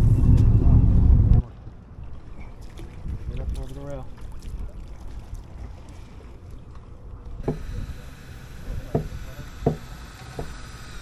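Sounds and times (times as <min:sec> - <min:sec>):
boat rumble: 0:00.0 - 0:11.0.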